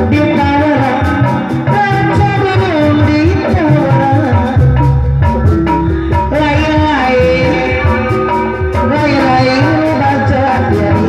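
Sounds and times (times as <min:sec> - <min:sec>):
drums: 0:00.0 - 0:11.0.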